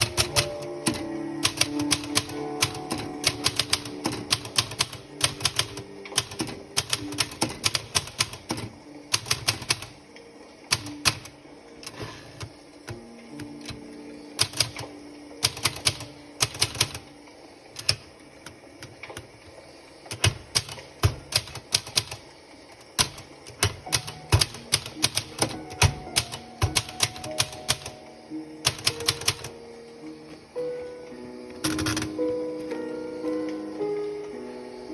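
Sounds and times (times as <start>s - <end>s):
typewriter keys striking: 0.0s - 10.0s, 10.7s - 17.1s, 17.8s - 28.0s, 28.6s - 29.6s, 31.6s - 32.2s.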